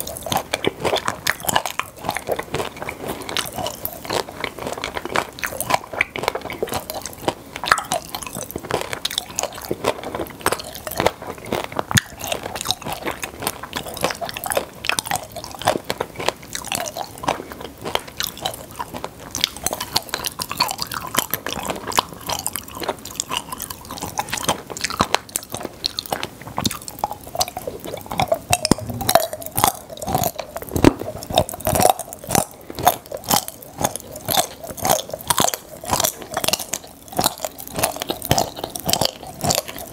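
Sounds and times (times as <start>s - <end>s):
popping candy crackle: 0.0s - 39.9s
wet chewing: 0.0s - 39.9s.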